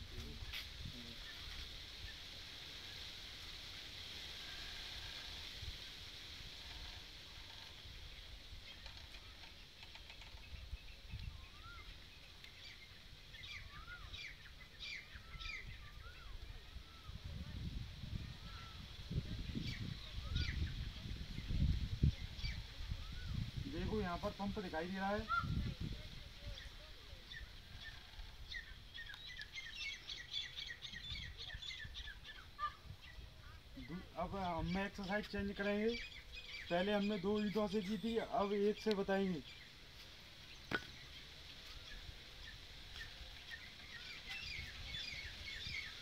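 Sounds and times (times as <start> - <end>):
small birds chirping: 7.5 - 17.2, 18.4 - 46.0.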